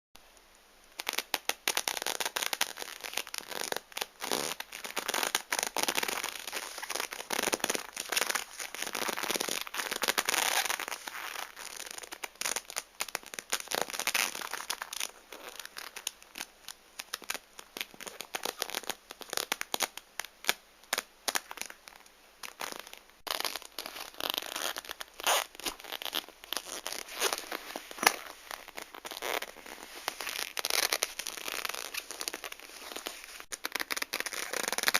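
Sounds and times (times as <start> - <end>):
leather glove squeaking and crinkling: 1.0 - 34.9.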